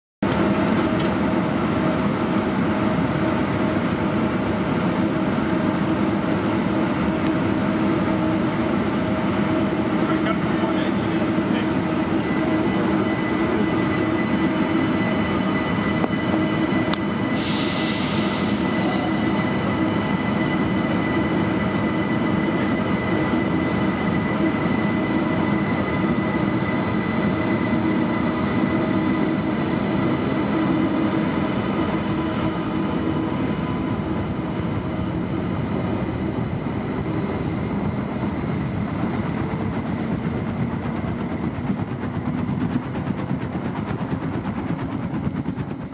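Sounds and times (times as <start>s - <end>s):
train running gear rumble: 0.2s - 45.9s
electric train drive whine: 0.3s - 45.9s.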